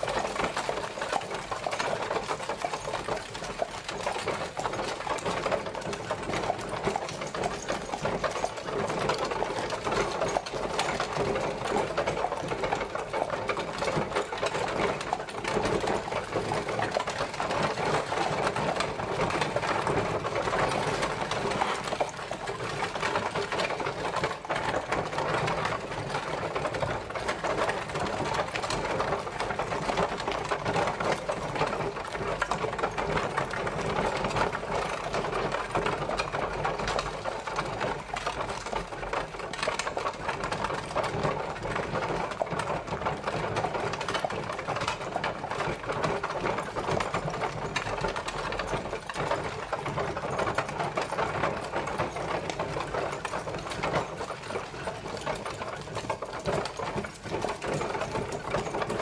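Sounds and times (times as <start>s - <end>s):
carriage wheels rattling: 0.0s - 59.0s.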